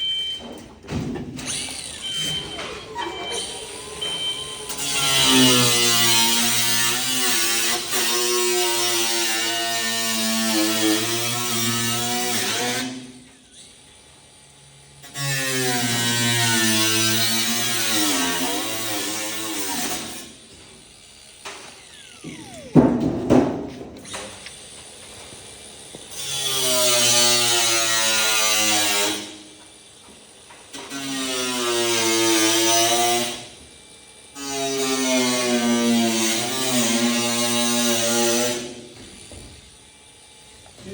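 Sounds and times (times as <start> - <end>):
angle grinder cutting: 1.5 - 29.8, 30.7 - 33.6, 34.3 - 40.9.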